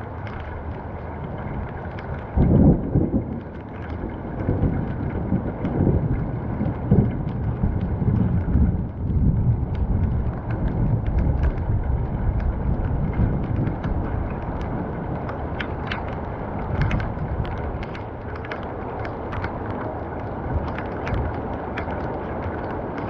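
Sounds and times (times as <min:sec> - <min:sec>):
low rumble of rainstorm: 0:00.0 - 0:23.0
raindrops ticking: 0:00.0 - 0:23.0.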